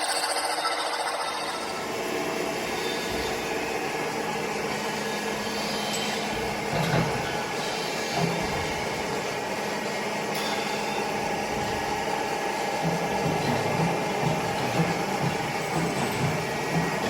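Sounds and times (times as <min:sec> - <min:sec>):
machine tool running: 0:00.0 - 0:17.0.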